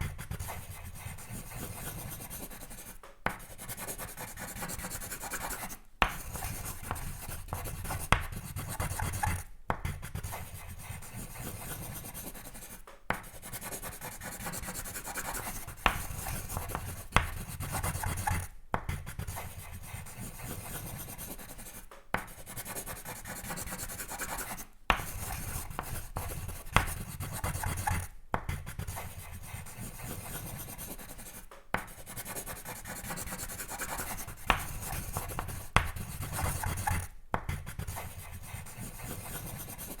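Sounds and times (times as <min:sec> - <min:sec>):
pencil sketching on paper: 0:00.0 - 0:40.0.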